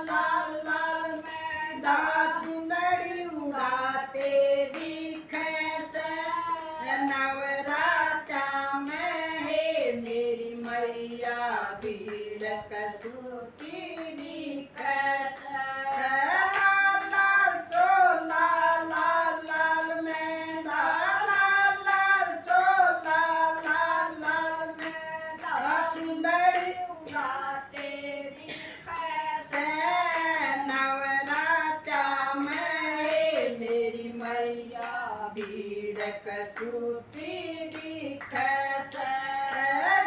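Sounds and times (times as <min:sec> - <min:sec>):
hand claps: 0:00.0 - 0:40.0
women singing together: 0:00.0 - 0:40.0.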